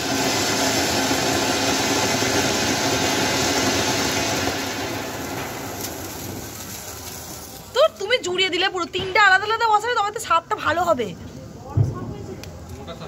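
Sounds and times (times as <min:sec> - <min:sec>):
firework hissing sparks: 0:00.0 - 0:11.0.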